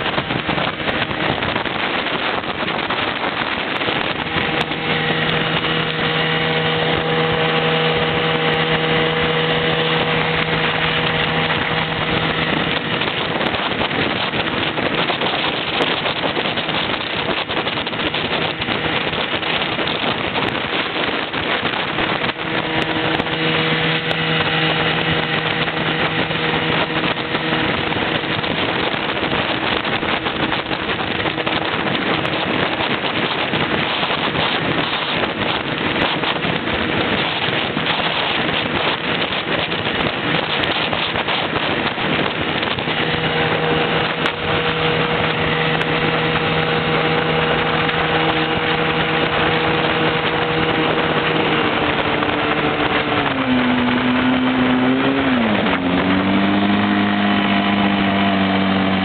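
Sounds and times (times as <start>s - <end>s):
motor running steadily: 0.0s - 59.0s
wind on microphone: 0.0s - 59.0s.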